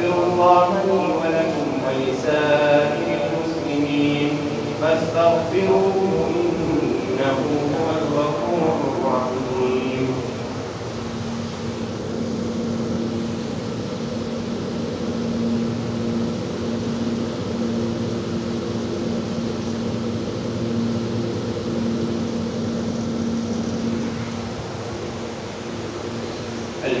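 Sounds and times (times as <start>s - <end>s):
mechanical hum and hiss: 0.0s - 27.0s.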